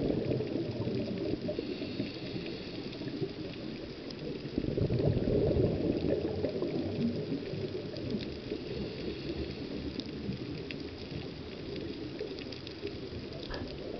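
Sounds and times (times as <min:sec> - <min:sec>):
underwater bubbling and gurgling: 0:00.0 - 0:13.9
faint scattered clicks: 0:00.2 - 0:05.1, 0:05.9 - 0:13.9.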